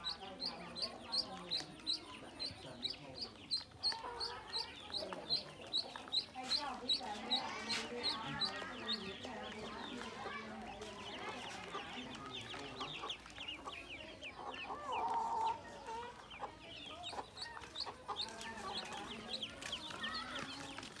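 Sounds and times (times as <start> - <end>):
ducklings peeping: 0.0 - 21.0.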